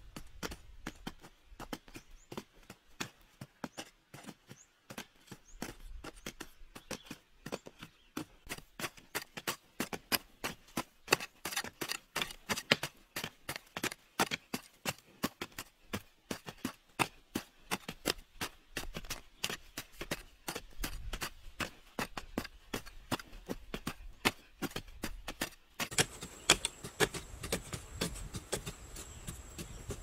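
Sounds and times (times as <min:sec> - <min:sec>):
hoes chopping dry soil: 0:00.0 - 0:30.0.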